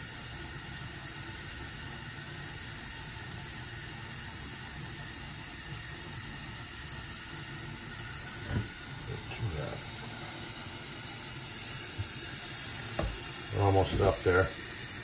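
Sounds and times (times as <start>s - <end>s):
water running into plastic drum: 0.0s - 15.0s.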